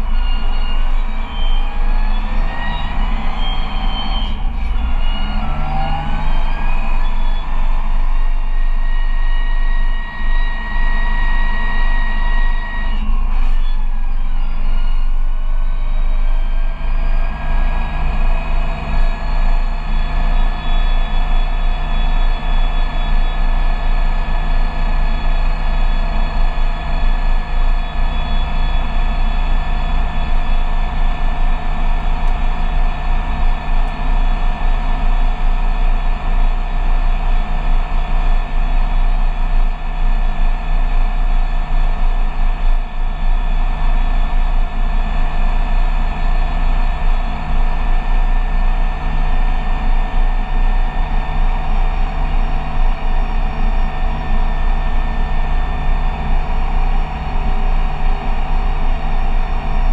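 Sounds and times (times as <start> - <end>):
diesel engine running steadily: 0.0 - 59.9
steady whine: 0.0 - 59.9.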